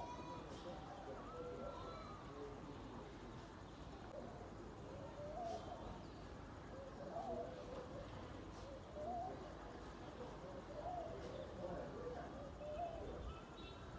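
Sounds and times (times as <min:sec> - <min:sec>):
outdoor background hiss: 0:00.0 - 0:13.9.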